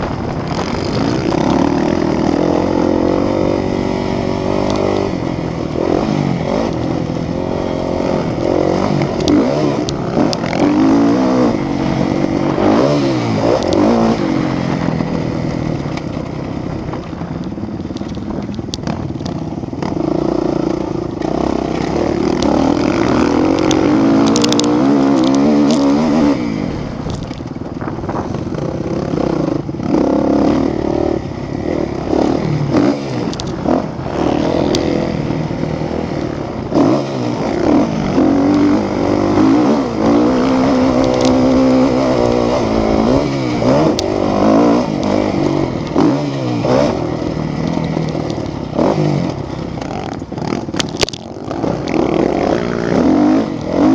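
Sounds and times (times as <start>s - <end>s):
motocross engines revving: 0.0s - 17.2s, 17.8s - 53.9s.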